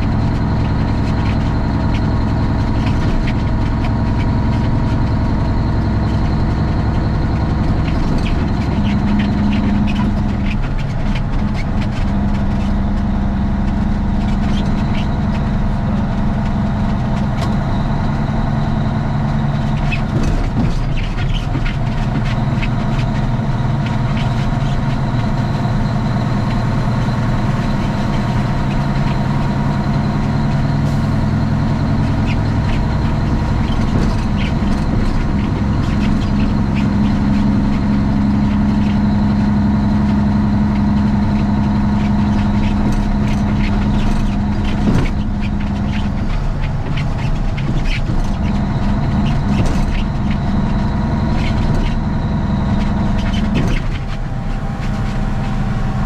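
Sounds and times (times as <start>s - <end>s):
diesel truck engine droning: 0.0s - 56.0s
light rattles and ticks: 0.0s - 56.0s.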